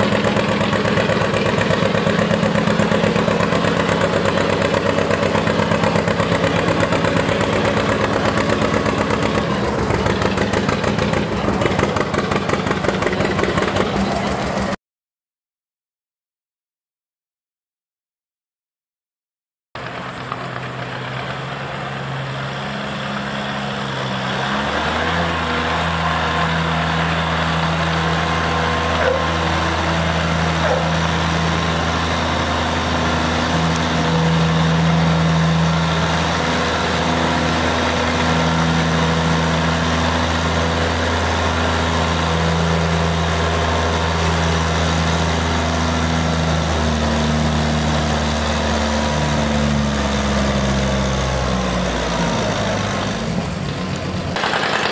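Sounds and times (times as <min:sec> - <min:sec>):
tractor engine under load: 0:00.0 - 0:14.8, 0:19.8 - 0:54.9.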